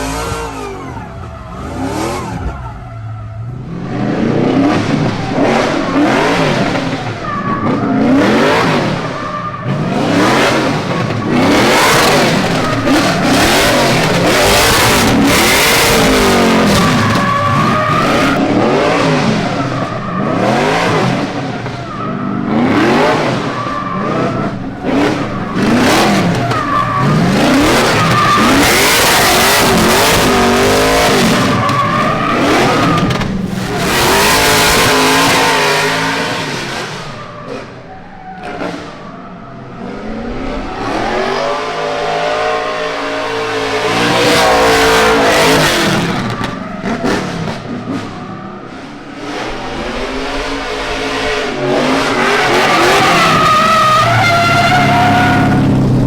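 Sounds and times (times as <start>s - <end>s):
car engine revving hard: 0.0s - 37.8s, 39.7s - 56.0s.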